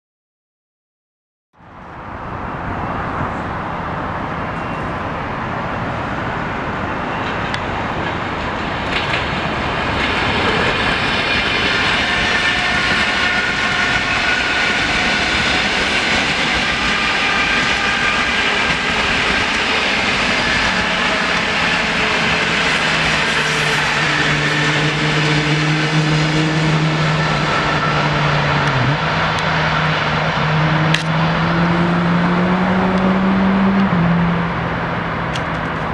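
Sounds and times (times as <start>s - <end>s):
diesel locomotive engine droning: 1.6s - 35.9s
rail noise: 1.6s - 35.9s.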